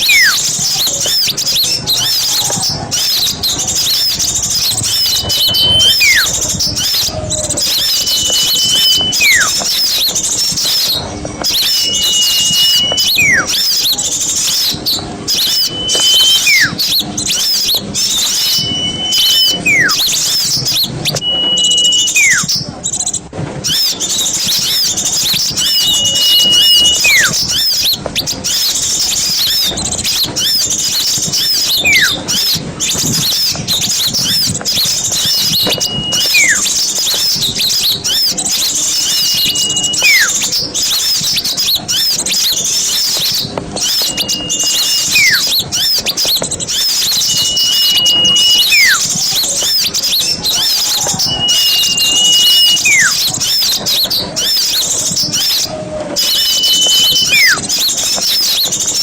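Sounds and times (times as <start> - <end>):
songbirds chattering: 0.0 - 59.0
whistle and sliding bird call: 0.0 - 59.0.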